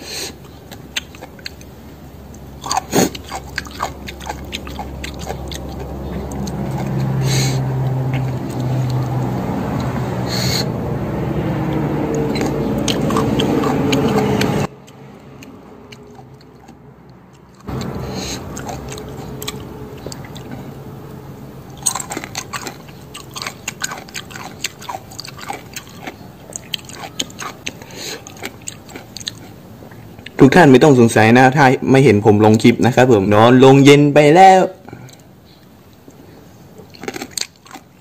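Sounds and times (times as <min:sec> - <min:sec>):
crunchy chewing: 0:00.0 - 0:30.4, 0:34.8 - 0:38.0
low steady hum: 0:00.0 - 0:38.0.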